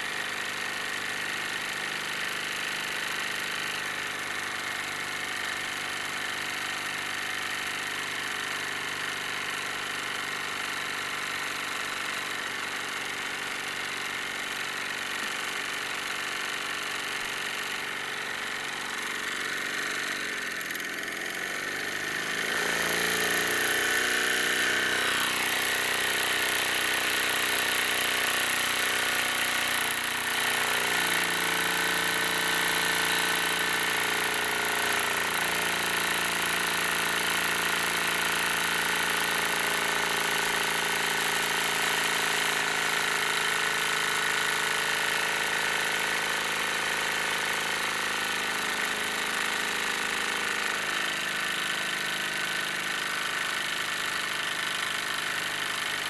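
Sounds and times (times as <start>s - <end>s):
steam engine running: 0.0s - 56.0s.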